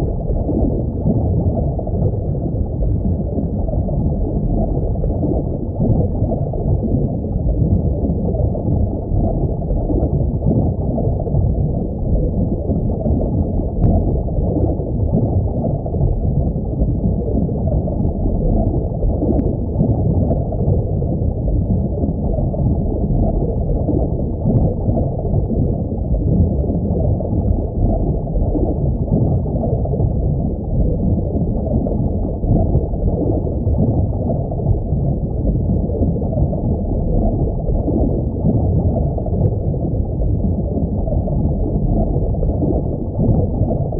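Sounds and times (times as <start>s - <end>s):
muffled aquarium water noise: 0.0s - 43.9s.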